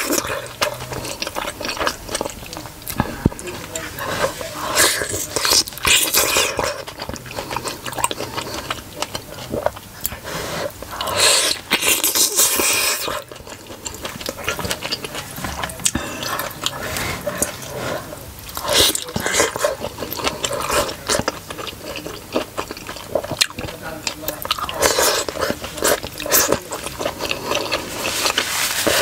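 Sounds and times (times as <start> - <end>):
slurping: 0.0 - 29.0
wet biting and chewing: 0.0 - 29.0.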